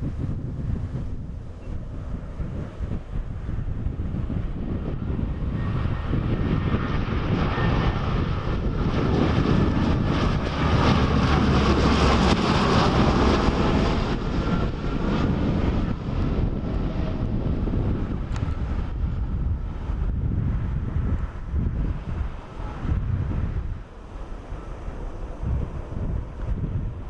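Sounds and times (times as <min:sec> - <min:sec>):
turboprop aircraft engines passing: 0:00.0 - 0:27.0
wind rumble on microphone: 0:00.0 - 0:27.0.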